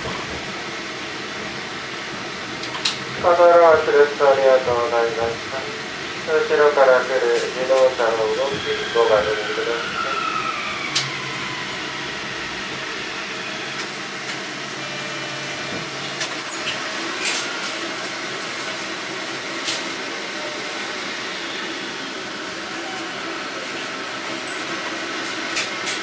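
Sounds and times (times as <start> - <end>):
streetcar running hum: 0.0 - 26.0.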